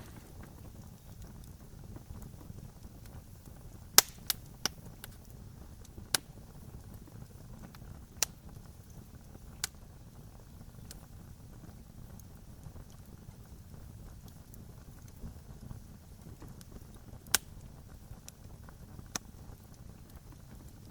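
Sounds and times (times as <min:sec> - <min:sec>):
campfire crackling and popping: 0:00.0 - 0:20.9.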